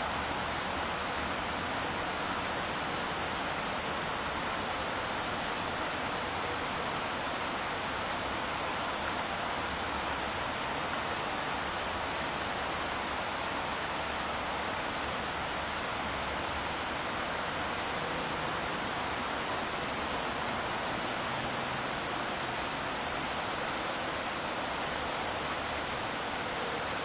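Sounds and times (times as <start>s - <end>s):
river water rushing over rapids: 0.0s - 27.0s.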